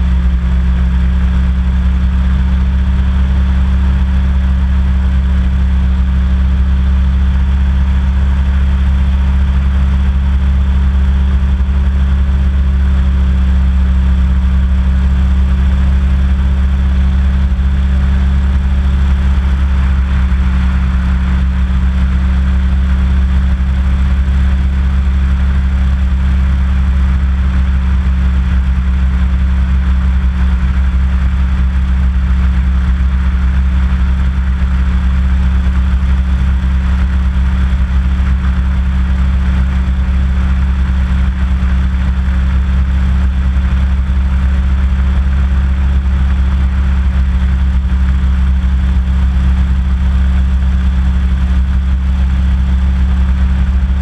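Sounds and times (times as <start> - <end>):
hovercraft engine droning: 0.0 - 46.4.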